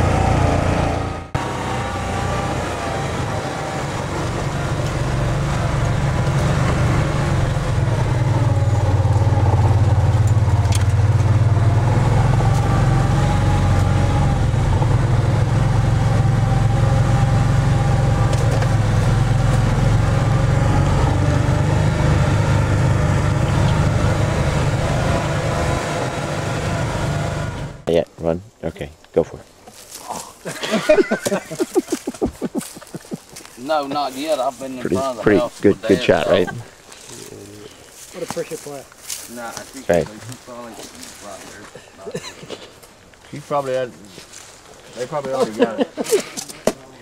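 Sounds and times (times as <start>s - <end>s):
atv engine running: 0.0s - 27.9s, 30.5s - 41.4s.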